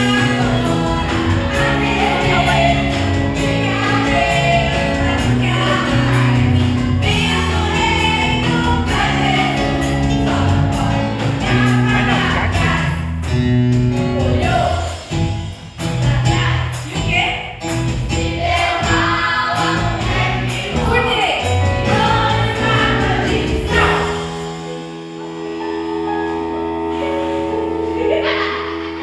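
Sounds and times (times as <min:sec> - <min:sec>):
voices singing gospel: 0:00.0 - 0:13.3, 0:14.0 - 0:29.0
held chords: 0:00.0 - 0:29.0
instrumental backing with beat: 0:00.0 - 0:29.0.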